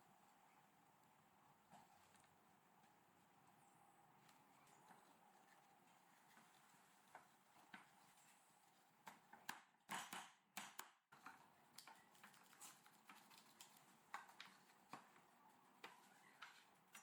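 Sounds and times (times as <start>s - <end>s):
faint clicks and taps: 1.7s - 17.0s.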